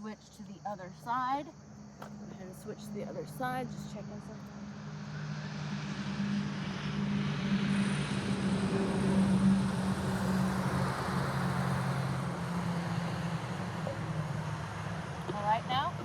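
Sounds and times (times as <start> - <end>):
motor vehicle passing by: 1.8 - 16.0.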